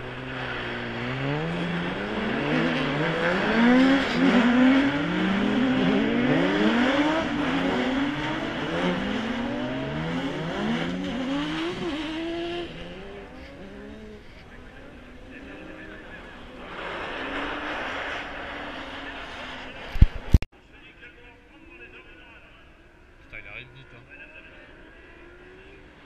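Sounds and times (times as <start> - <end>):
car engines revving: 0.0 - 20.4, 22.8 - 26.0.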